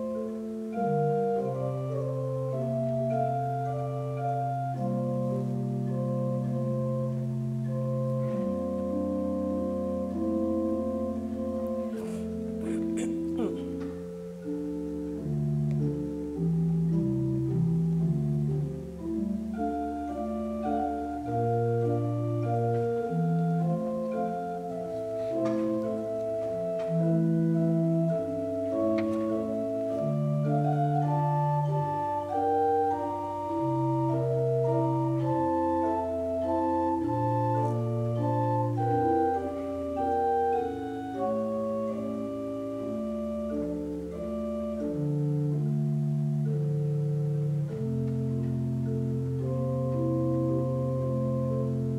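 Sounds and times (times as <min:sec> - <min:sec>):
pipe organ playing chords: 0:00.0 - 0:51.9.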